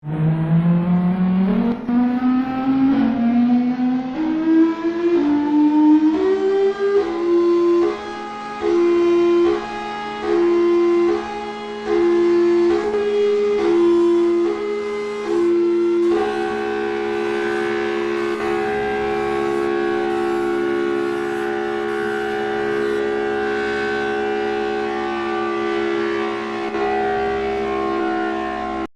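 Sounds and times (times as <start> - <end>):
buzzy alarm tone climbing in pitch: 0.0 - 28.9.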